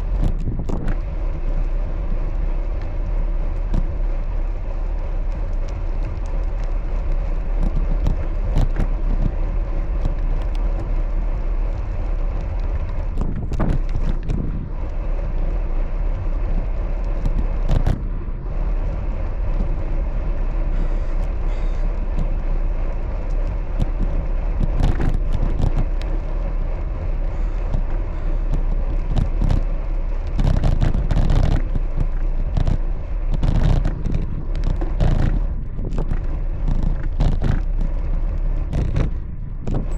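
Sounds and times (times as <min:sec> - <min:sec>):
bicycle road and wind noise: 0:00.0 - 0:39.9.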